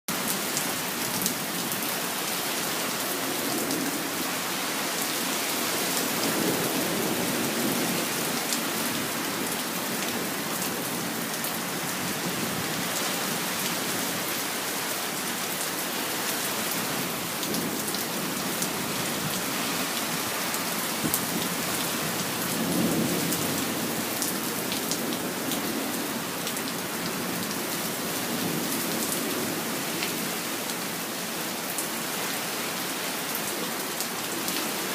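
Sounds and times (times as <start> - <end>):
steady rain hiss: 0.1 - 34.9.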